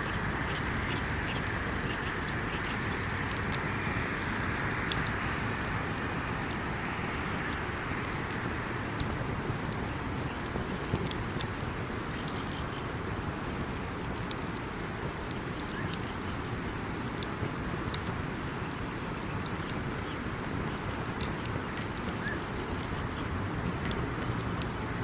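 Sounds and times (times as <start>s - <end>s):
burning wood crackling and popping: 0.0s - 25.0s
campfire flame rushing: 0.0s - 25.0s.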